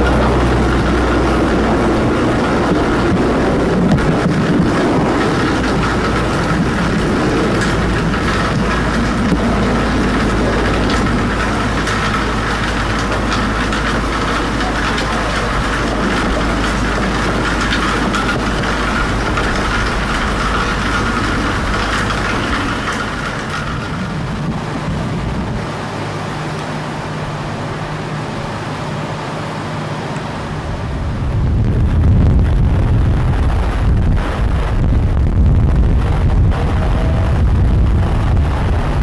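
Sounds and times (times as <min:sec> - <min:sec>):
propeller plane passing overhead: 0:00.0 - 0:39.0
quieter steady engine hum: 0:00.0 - 0:39.0.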